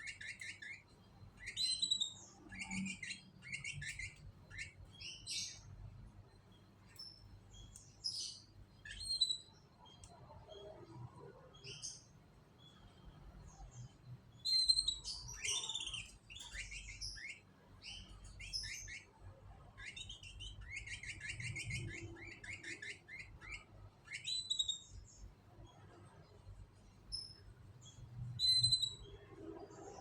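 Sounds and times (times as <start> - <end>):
canary singing: 0.0 - 10.8, 11.6 - 26.2, 26.8 - 30.0.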